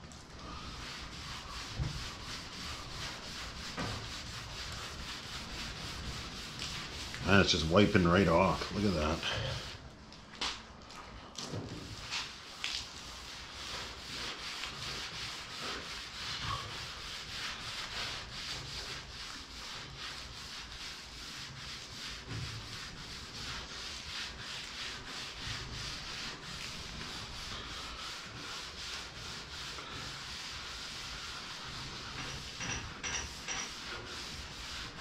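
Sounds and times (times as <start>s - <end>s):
cloth scrubbing wet metal: 0.1s - 9.9s, 11.9s - 35.0s.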